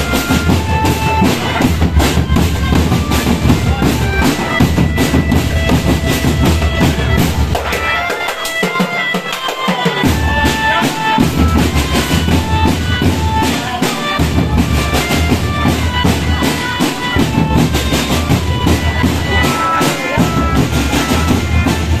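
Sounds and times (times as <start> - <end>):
marching drum band: 0.0 - 22.0.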